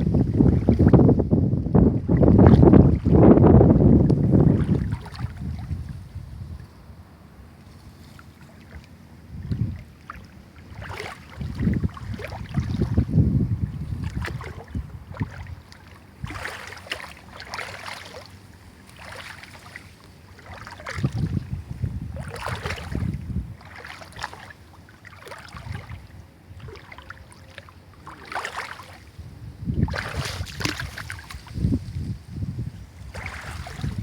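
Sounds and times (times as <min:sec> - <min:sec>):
wind buffeting microphone: 0:00.0 - 0:07.2, 0:08.7 - 0:18.0, 0:20.4 - 0:24.5, 0:25.4 - 0:26.9, 0:28.1 - 0:34.0.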